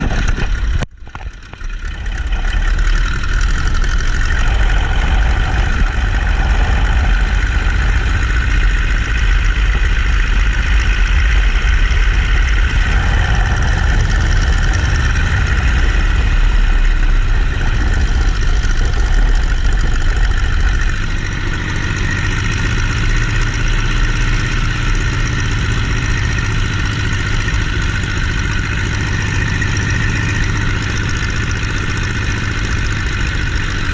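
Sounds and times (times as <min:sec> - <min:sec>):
biplane radial engine running: 0:00.0 - 0:33.9.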